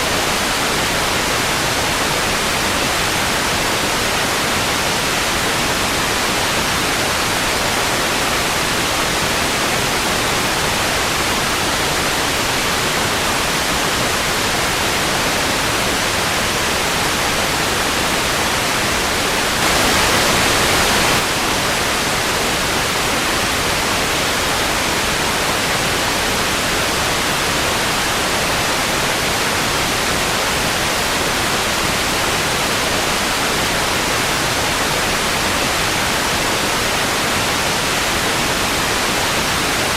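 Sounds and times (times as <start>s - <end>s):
television static hiss: 0.0s - 39.9s.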